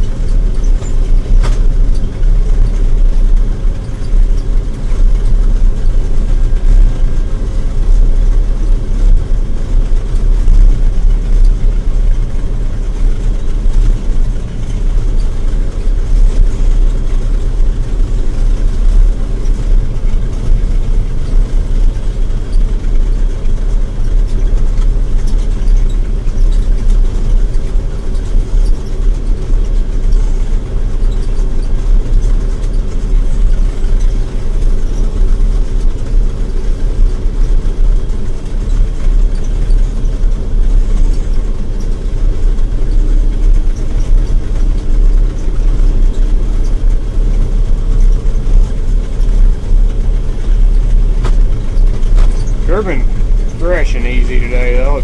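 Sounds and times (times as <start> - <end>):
combine harvester engine droning: 0.0 - 55.0.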